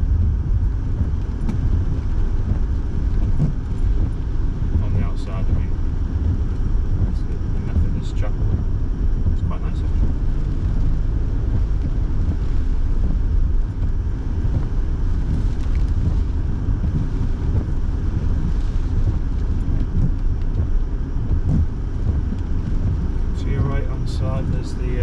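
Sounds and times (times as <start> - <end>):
engine and road rumble: 0.0 - 25.0
heater fan blowing: 0.0 - 25.0.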